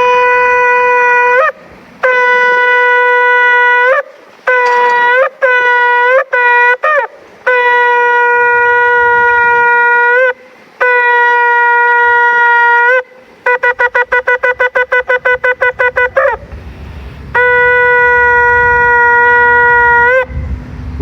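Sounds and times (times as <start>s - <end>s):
ram's horn blasts: 0.0s - 21.0s.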